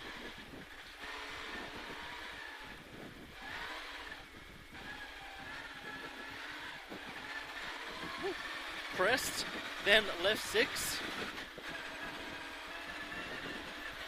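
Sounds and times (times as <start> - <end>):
car engine: 0.0 - 14.0
road noise inside car: 0.0 - 14.0.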